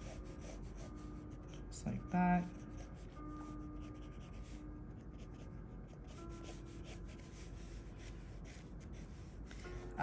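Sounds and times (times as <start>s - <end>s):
pencil scratching on paper: 0.0s - 10.0s.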